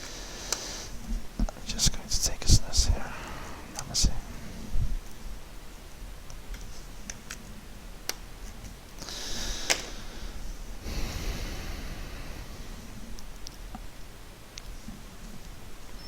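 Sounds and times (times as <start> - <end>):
soft hissing noise: 0.0 - 7.0, 8.7 - 16.0.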